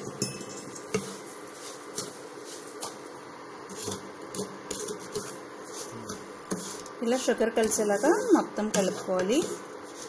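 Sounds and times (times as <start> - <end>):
induction cooktop hum: 0.0 - 10.0
spatula scraping dry grains in pan: 0.7 - 10.0.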